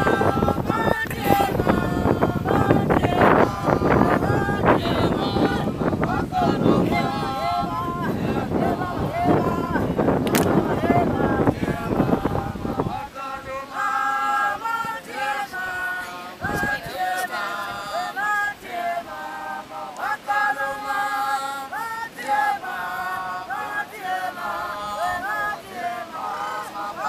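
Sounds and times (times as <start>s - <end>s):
group singing in harmony: 0.0s - 27.0s.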